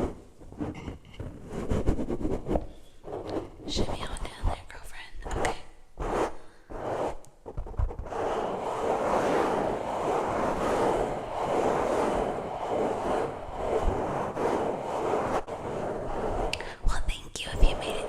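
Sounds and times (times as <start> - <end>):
brush swishing on microphone: 0.0 - 18.0.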